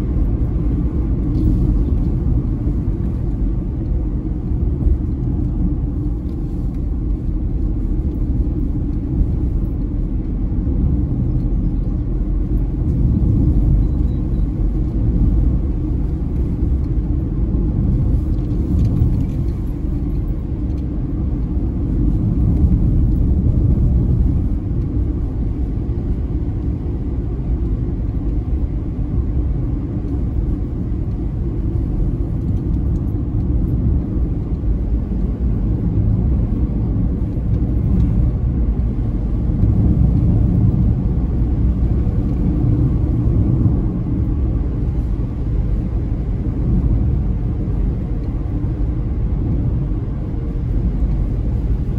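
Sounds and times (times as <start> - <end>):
car engine and tyre noise: 0.0 - 51.9.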